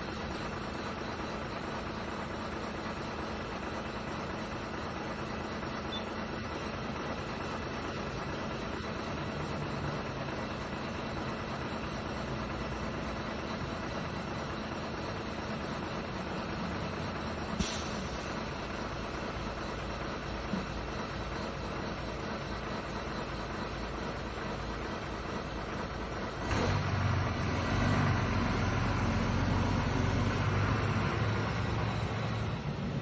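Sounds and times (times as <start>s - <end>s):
lorry engine idling: 0.0s - 33.0s.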